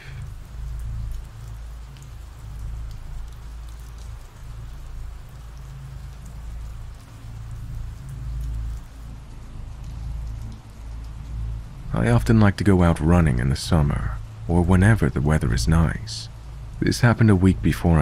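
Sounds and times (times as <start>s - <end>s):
rain drop ticks: 0.0s - 18.0s
steady rainfall: 0.0s - 18.0s.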